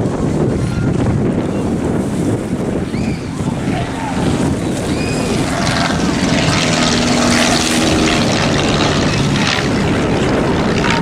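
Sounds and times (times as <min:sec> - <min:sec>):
biplane engine droning: 0:00.0 - 0:11.0
wind buffeting microphone: 0:00.0 - 0:11.0.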